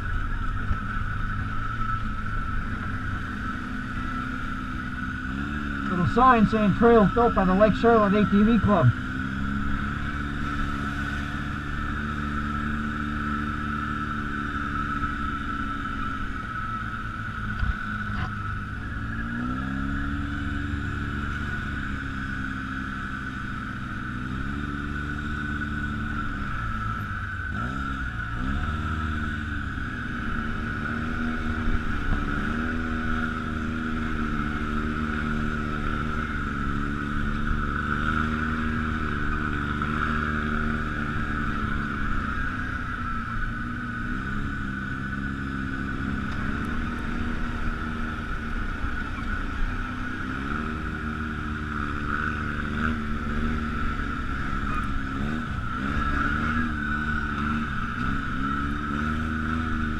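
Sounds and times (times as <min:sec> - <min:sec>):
atv engine revving: 0:00.0 - 0:59.9
high whine: 0:00.0 - 0:59.9.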